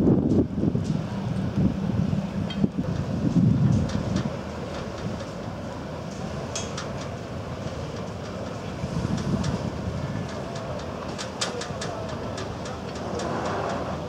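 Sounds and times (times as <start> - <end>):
diesel boat engine rumble: 0.0 - 14.0
water washing along hull: 0.0 - 14.0
wind buffeting microphone: 0.0 - 14.0.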